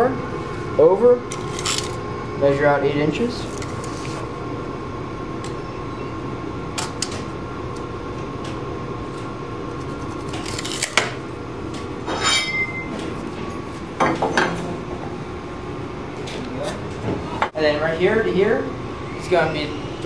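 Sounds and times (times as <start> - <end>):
workshop background rumble: 0.0 - 20.0.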